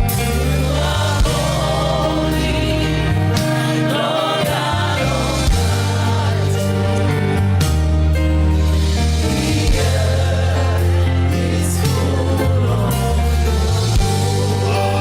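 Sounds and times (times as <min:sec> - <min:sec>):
bass and keyboard chords: 0:00.0 - 0:15.0
choir singing gospel: 0:00.0 - 0:15.0.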